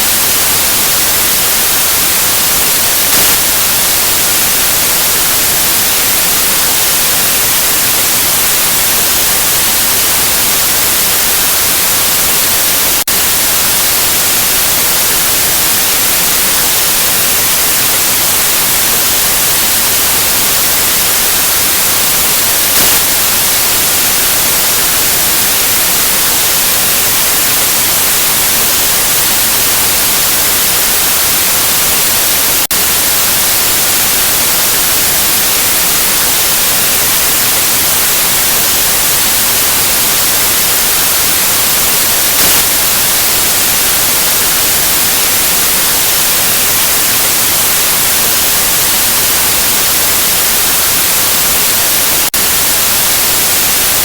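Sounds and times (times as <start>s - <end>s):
loud white noise hiss: 0.0s - 54.0s.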